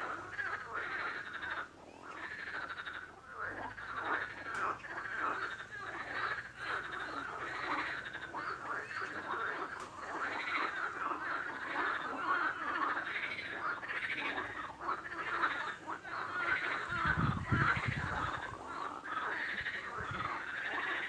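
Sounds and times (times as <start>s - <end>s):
chorus of frogs calling: 0.0s - 21.0s.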